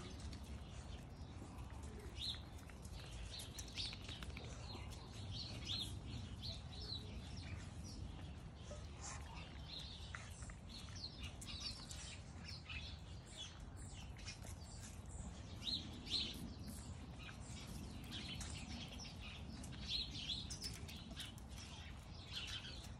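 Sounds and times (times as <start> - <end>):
puppies eating from bowls: 0.0 - 22.9
small birds chirping: 0.0 - 22.9.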